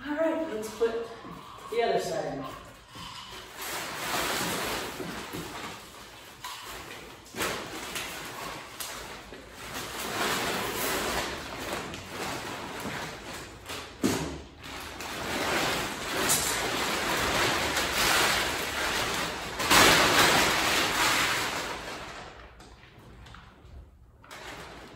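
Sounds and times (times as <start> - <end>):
plastic tarp rustling: 0.0 - 24.9.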